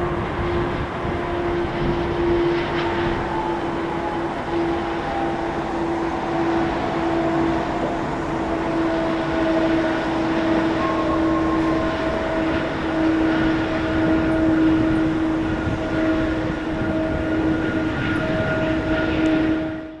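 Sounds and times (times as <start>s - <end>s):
jet engine whine: 0.0s - 20.0s.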